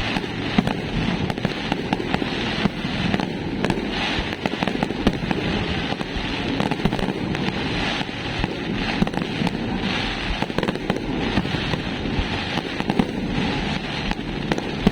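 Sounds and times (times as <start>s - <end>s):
fireworks crackling and banging: 0.0s - 14.9s.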